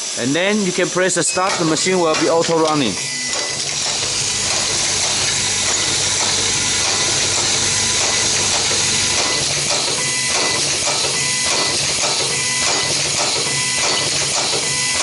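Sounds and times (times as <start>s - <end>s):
pneumatic cylinders hissing: 0.0s - 15.0s.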